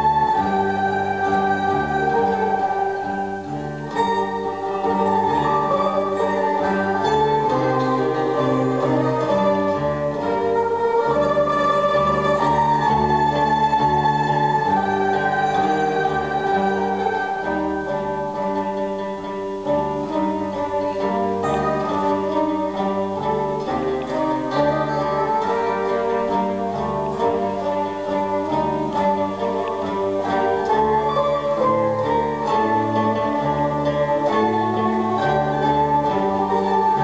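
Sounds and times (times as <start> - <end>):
keyed zither ensemble melody: 0.0 - 37.0.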